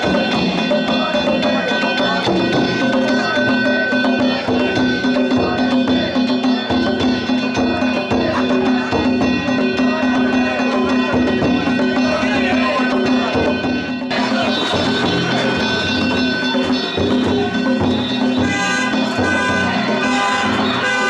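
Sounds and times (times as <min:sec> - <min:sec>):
drums beating fast rhythm: 0:00.0 - 0:21.0
metal gongs ringing: 0:00.0 - 0:21.0.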